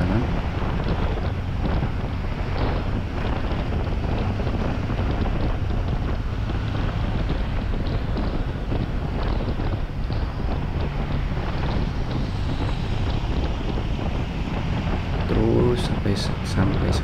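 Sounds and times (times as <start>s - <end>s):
motorcycle engine droning: 0.0s - 17.0s
wind buffeting microphone: 0.0s - 17.0s.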